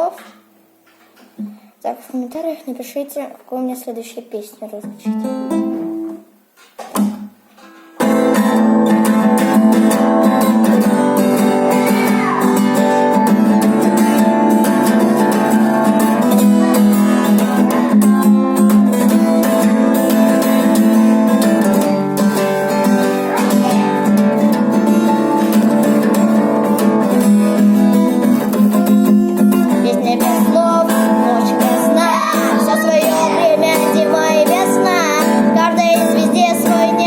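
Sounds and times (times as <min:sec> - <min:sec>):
guitar strumming chords: 0:04.9 - 0:06.4, 0:07.0 - 0:37.0.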